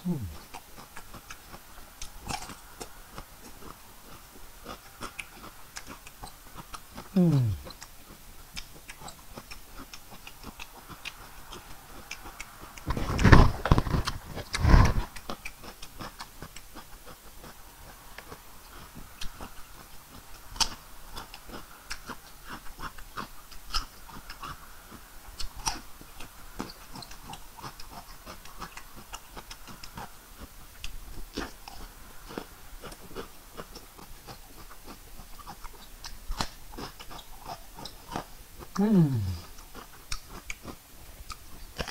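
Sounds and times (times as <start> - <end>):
chewing with wet mouth smacks: 0.1 - 41.9.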